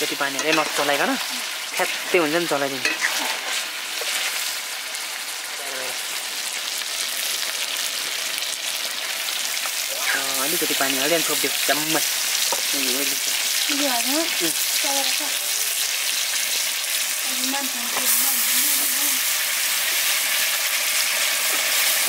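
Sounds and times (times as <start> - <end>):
tomatoes sizzling in oil: 0.0 - 22.0.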